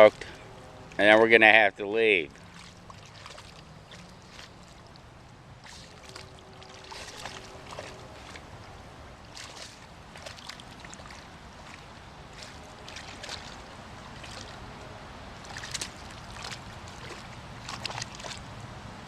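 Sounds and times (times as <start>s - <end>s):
dog splashing through water: 2.3s - 18.6s.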